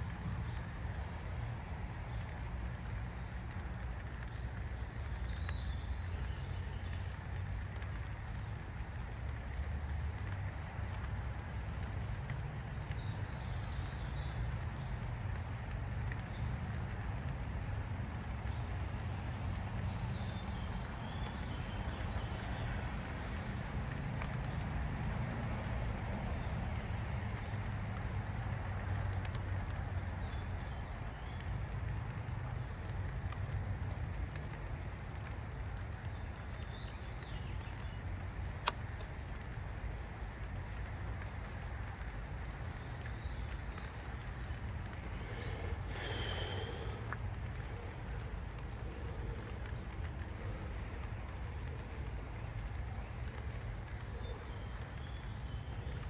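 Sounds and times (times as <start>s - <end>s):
low outdoor rumble: 0.0s - 56.0s.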